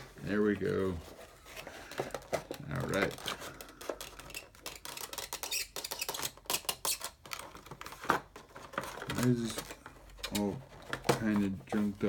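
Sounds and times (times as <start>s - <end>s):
plastic packaging crackling and clicking: 1.8s - 12.0s.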